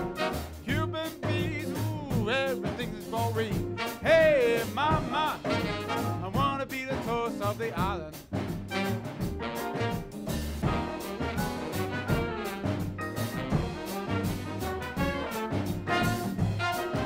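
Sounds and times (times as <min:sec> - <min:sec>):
swing music with brass: 0:00.0 - 0:17.0.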